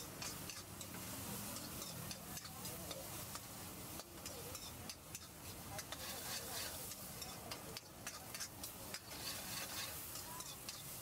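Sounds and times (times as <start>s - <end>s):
onions sizzling in oil: 0.0s - 11.0s
steel spoon scraping a wok: 0.0s - 11.0s.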